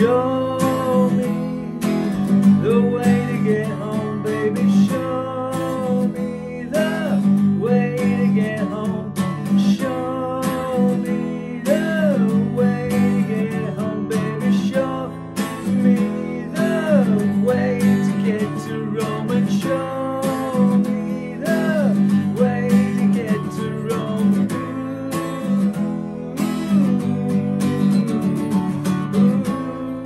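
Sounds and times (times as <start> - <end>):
acoustic guitar strumming: 0.0 - 30.0
wordless singing: 0.0 - 30.0.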